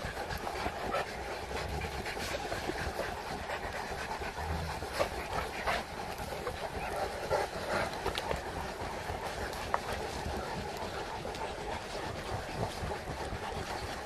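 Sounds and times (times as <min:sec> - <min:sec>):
dogs panting: 0:00.0 - 0:14.0.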